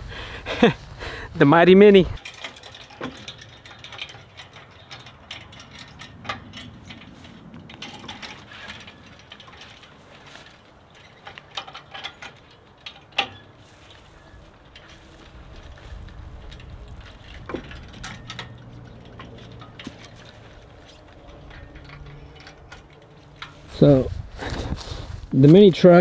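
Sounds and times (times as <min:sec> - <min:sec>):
ratcheting lever clicking: 0:02.2 - 0:23.9.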